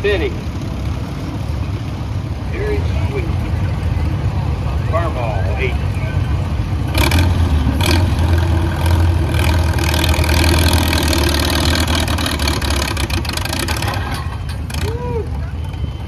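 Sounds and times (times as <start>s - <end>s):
tractor engine running under load: 0.0s - 16.0s.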